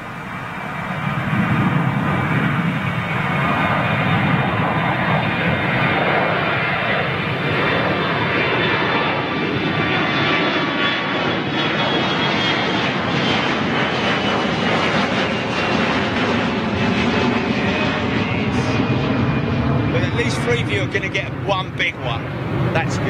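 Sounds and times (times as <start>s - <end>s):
airliner engines at high power: 0.0s - 23.0s.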